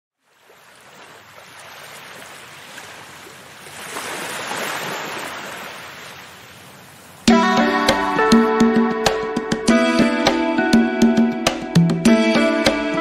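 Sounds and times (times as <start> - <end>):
ocean waves washing: 0.2 - 12.2.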